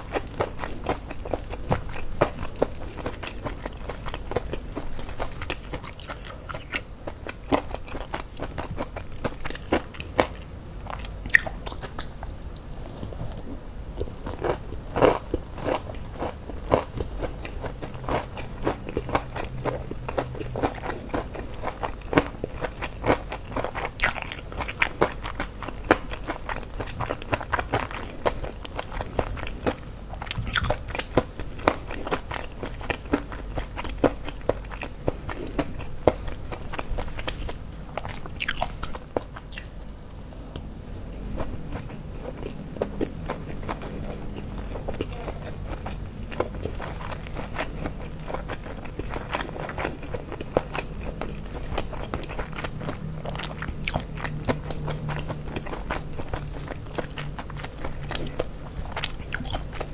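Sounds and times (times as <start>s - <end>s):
crunching bites and chewing: 0.0s - 59.9s.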